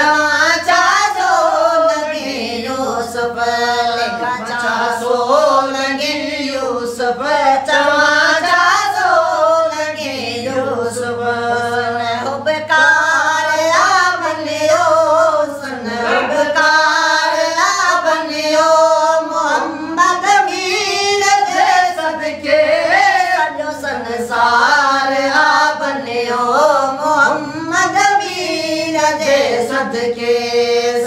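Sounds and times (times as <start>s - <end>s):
boy singing: 0.0s - 31.0s
men singing along: 0.0s - 31.0s.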